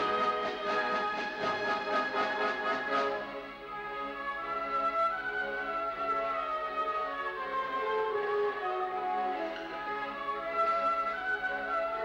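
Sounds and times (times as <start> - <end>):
orchestra playing ballet music: 0.0 - 12.0.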